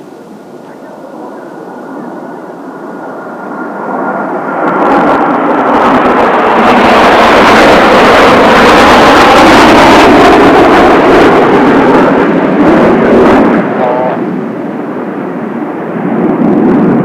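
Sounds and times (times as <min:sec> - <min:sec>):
jet aircraft roar overhead: 0:00.0 - 0:17.0.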